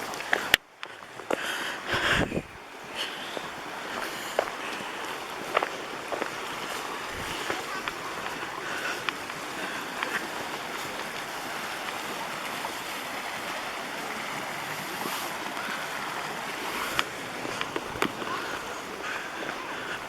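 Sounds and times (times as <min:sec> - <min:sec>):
creek water rushing: 0:00.0 - 0:20.0.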